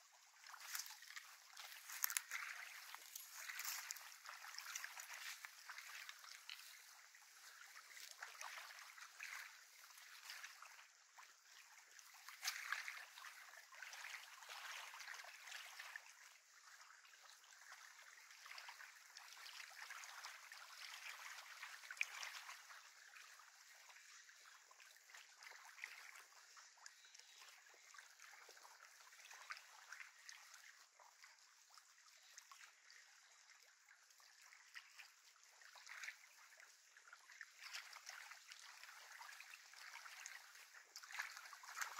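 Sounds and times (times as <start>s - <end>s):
small waves lapping shore: 0.0s - 41.9s.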